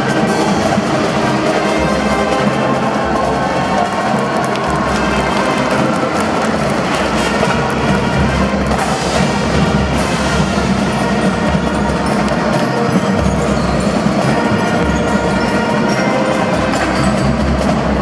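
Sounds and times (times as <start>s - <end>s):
marching drum band playing: 0.0s - 18.0s.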